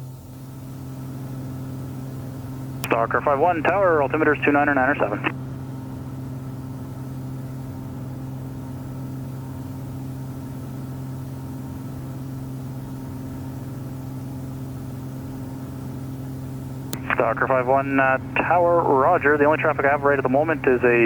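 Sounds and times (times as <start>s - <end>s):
propeller aircraft engines droning: 0.7s - 14.2s, 15.0s - 21.0s.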